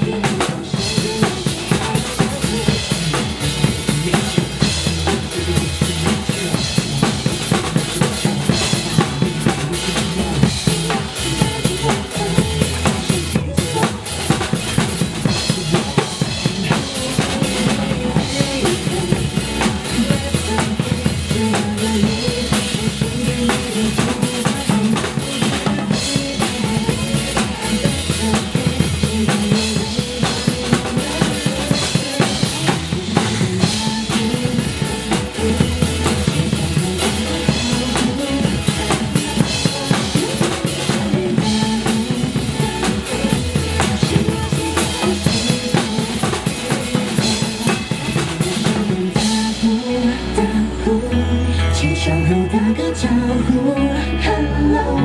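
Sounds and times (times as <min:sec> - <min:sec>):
acoustic drum kit playing: 0:00.0 - 0:50.4
pop song backing music: 0:00.0 - 0:55.0.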